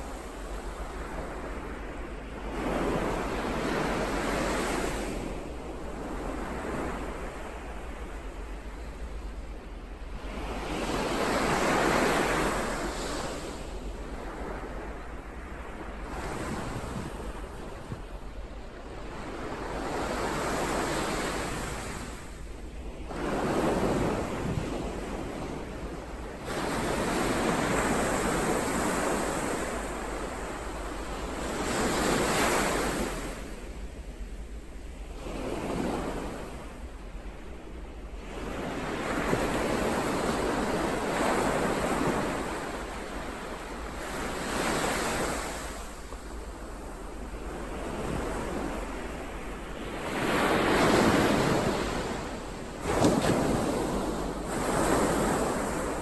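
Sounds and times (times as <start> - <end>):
ocean waves: 0.0 - 56.0
steady low rumble of surf: 0.0 - 56.0.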